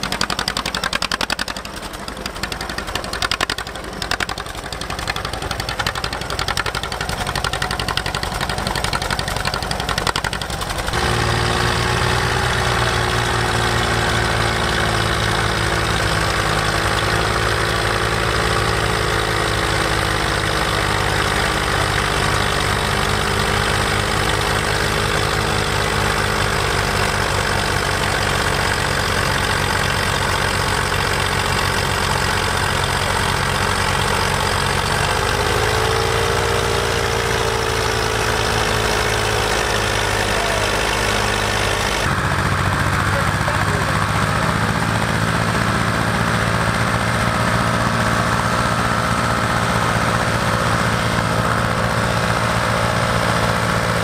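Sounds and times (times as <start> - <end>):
tractor engine pulsing: 0.0 - 54.0
tractor engines idling: 0.0 - 54.0.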